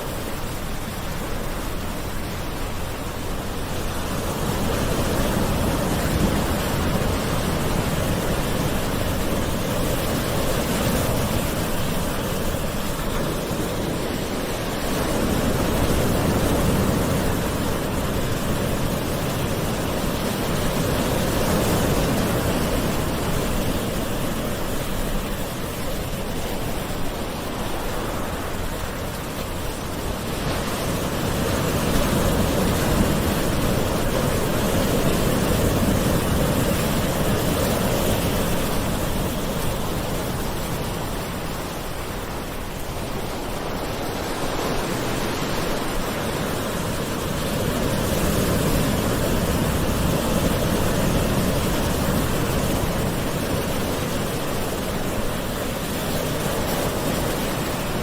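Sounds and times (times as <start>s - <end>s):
gentle ocean waves on shore: 0.0s - 58.0s.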